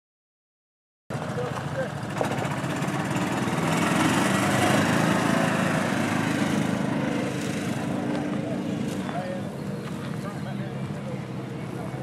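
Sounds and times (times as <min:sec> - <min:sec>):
petrol engine running: 0:01.1 - 0:12.0.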